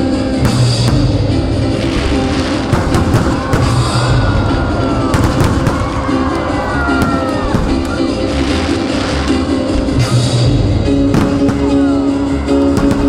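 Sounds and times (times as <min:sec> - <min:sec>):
loud music with a beat: 0:00.0 - 0:13.0
fireworks bursting: 0:00.3 - 0:10.4, 0:11.0 - 0:13.0.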